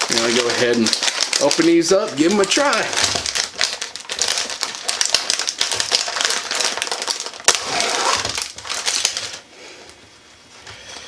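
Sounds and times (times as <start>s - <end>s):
plastic package crinkling open: 0.0s - 9.5s.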